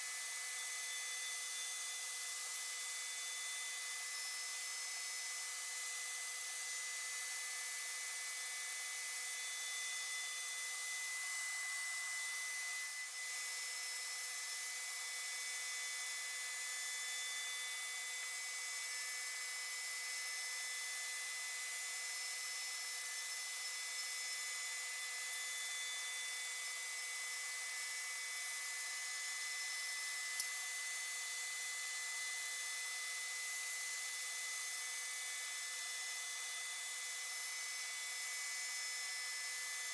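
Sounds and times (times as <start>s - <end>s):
cnc router spindle cutting wood: 0.0s - 39.9s
vacuum cleaner hiss: 3.6s - 39.9s.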